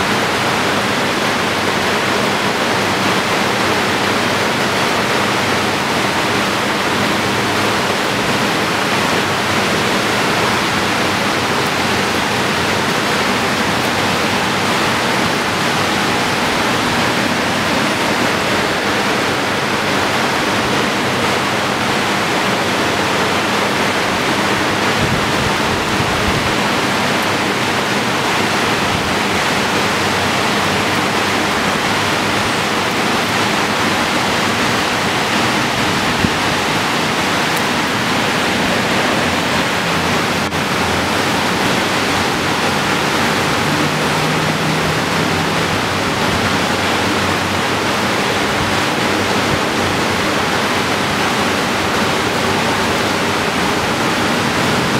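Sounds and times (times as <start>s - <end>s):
heavy rain hissing: 0.0s - 54.9s.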